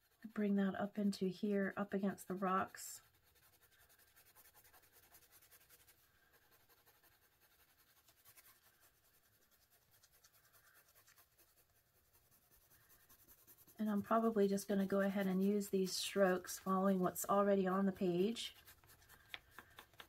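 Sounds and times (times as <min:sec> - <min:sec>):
pencil scratching on paper: 0:00.0 - 0:20.0.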